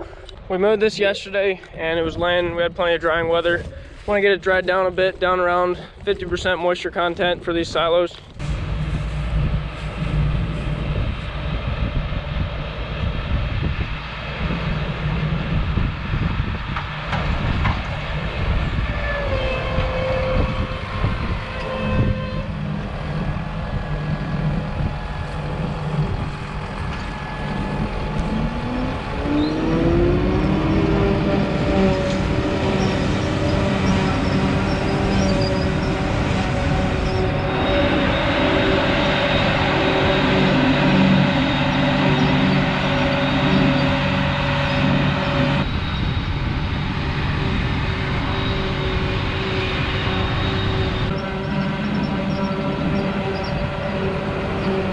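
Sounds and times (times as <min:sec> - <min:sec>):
heavy machinery drone: 0:07.2 - 0:54.9
machine whine rising in pitch: 0:08.4 - 0:54.9.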